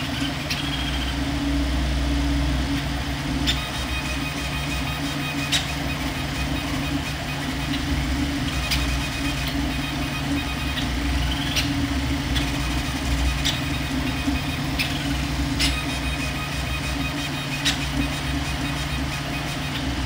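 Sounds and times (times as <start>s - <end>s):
print head ticks: 0.0s - 20.0s
printer fans humming: 0.0s - 20.0s
stepper motor whine: 0.0s - 20.0s.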